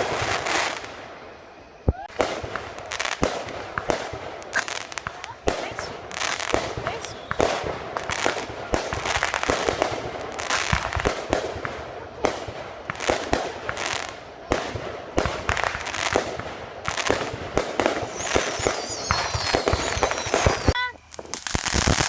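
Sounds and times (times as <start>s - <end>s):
fireworks banging and crackling: 0.0s - 22.0s.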